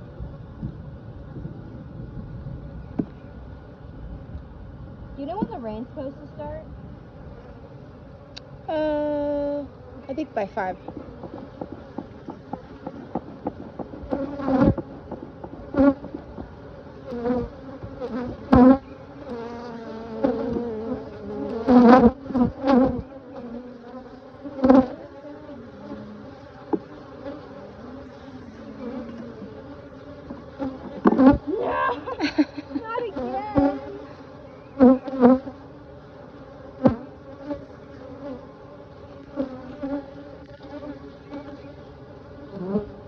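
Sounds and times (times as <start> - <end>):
bees humming: 0.0 - 43.0
bee flying close past: 5.2 - 43.0.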